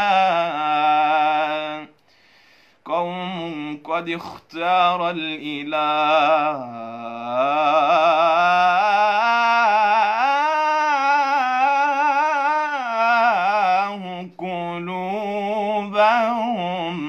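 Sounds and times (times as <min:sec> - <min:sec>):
man singing unaccompanied: 0:00.0 - 0:02.0, 0:02.8 - 0:17.0.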